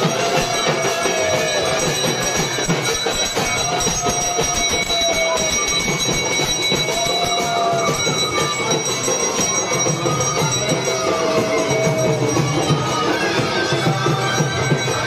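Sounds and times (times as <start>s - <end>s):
hand bell ringing: 0.0s - 15.0s.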